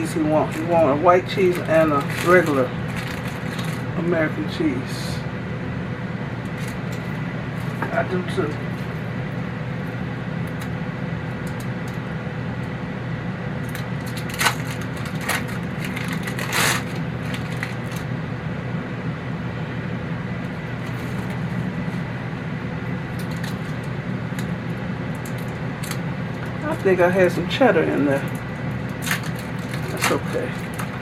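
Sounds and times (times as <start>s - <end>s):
kitchen appliance fan humming: 0.0s - 31.0s.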